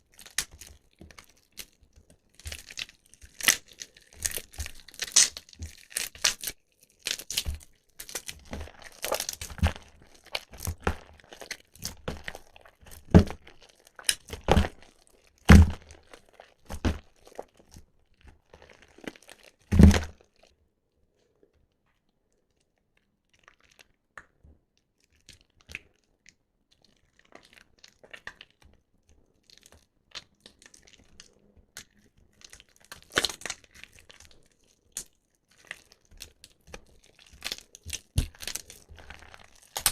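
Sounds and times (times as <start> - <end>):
wet soap squished by hand: 0.0 - 20.5, 22.1 - 39.9.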